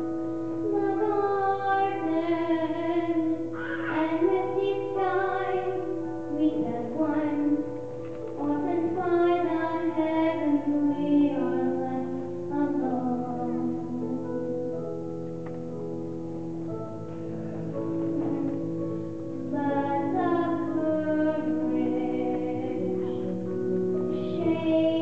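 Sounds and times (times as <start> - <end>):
piano accompaniment: 0.0 - 25.0
girl singing into a microphone: 0.4 - 14.6, 18.0 - 25.0.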